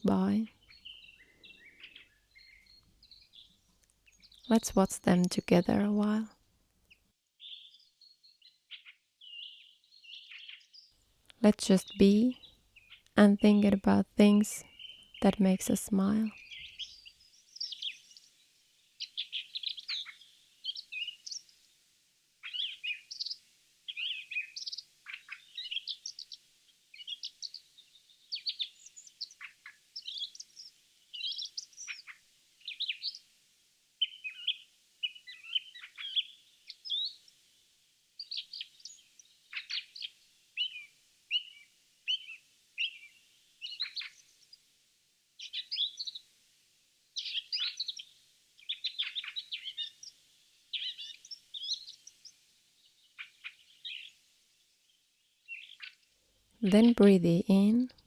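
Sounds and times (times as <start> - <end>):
small birds chirping: 0.0 - 21.7, 22.4 - 33.3, 34.0 - 37.6, 38.2 - 44.7, 45.4 - 46.4, 47.1 - 58.0.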